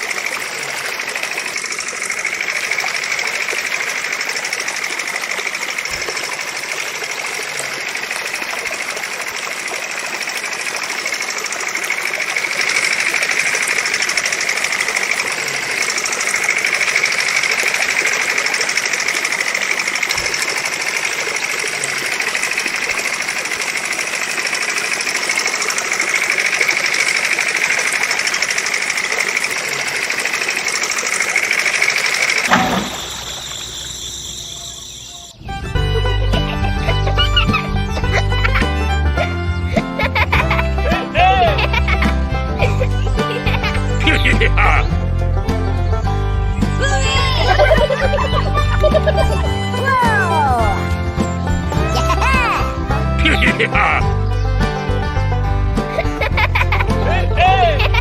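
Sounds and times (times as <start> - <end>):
small diesel engine clattering: 0.0 - 58.0.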